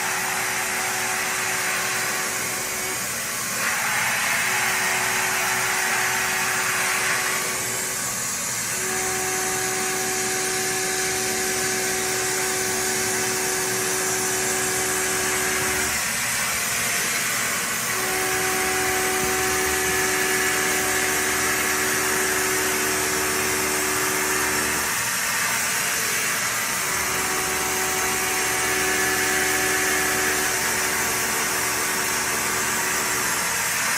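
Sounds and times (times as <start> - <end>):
milling cutter humming: 0.0 - 33.9.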